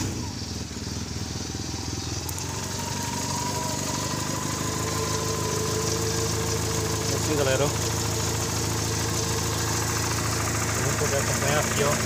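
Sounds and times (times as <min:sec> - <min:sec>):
car engine idling: 0:00.0 - 0:12.0
engine ticking: 0:00.0 - 0:12.0.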